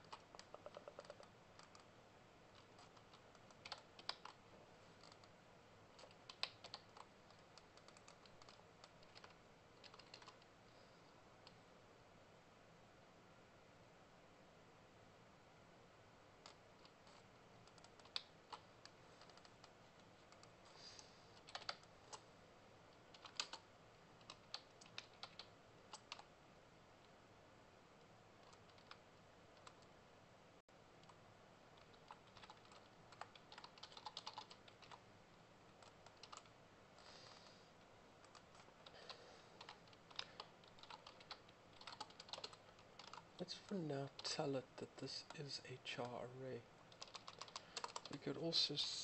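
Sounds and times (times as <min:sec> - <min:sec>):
faint keyboard typing: 0:00.0 - 0:10.6, 0:16.3 - 0:26.4, 0:28.0 - 0:30.0, 0:30.9 - 0:49.0.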